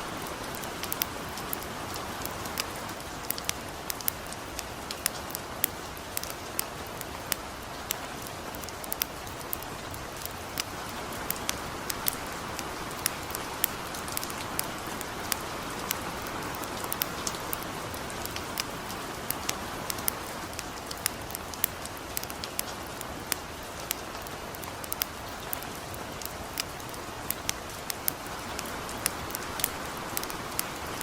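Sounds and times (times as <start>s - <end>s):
campfire crackling: 0.0s - 31.0s
gentle rain hiss: 0.0s - 31.0s.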